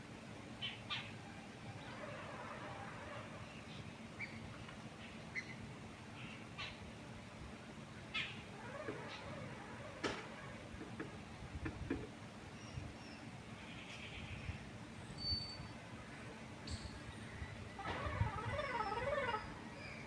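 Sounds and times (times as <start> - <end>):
wind in the trees: 1.2 - 20.0.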